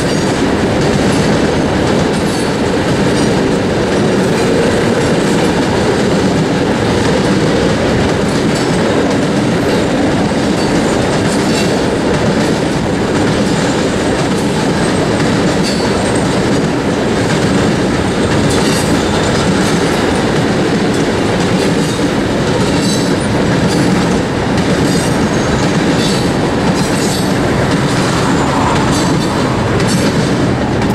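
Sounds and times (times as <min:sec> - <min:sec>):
railcars rumbling past: 0:00.0 - 0:30.9
wheel clatter over rail joints: 0:00.0 - 0:30.9.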